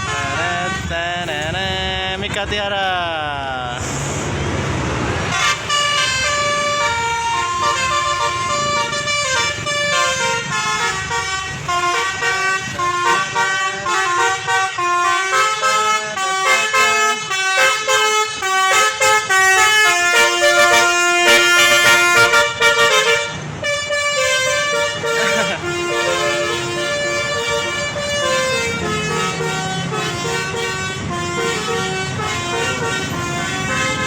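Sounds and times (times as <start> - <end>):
bus musical horn tune: 0.0 - 1.6, 5.2 - 34.0.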